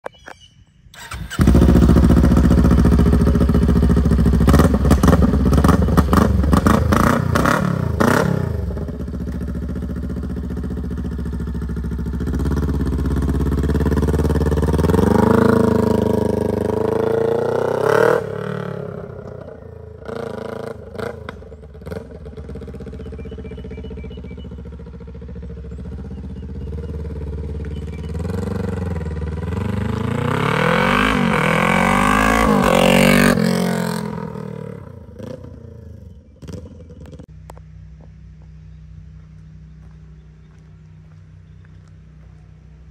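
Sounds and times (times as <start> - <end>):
motorcycle engine revving through gears: 0.9 - 37.6.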